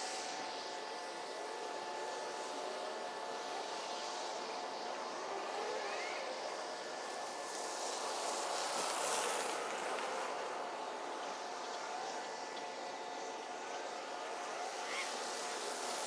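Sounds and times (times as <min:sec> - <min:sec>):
faint steady tones: 0:00.0 - 0:16.0.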